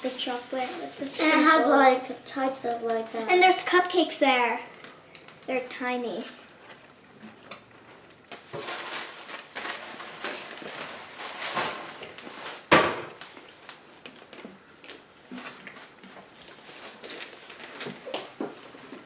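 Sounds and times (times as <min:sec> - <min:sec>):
rustling and handling noises: 0:00.0 - 0:19.0.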